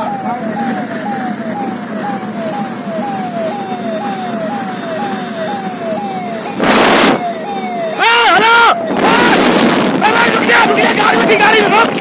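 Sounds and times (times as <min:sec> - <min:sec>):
car engine and road noise: 0:00.0 - 0:12.0
loud rush of noise: 0:00.0 - 0:12.0
siren horn wailing: 0:00.0 - 0:12.0.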